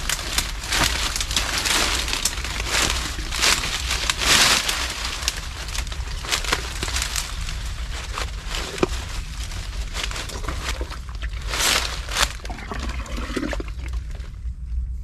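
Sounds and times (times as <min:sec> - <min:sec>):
twigs snapping: 0:00.0 - 0:12.5
low rumble: 0:00.0 - 0:15.0
rustling through palm fronds: 0:00.0 - 0:15.0.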